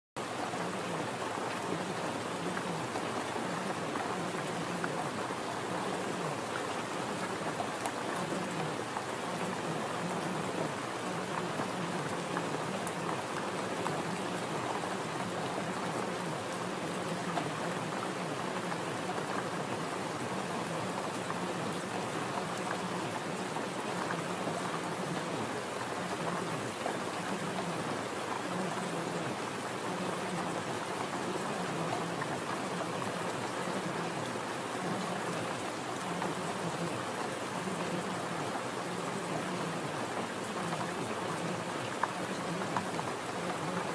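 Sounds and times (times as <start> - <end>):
steady rain falling: 0.2 - 43.9.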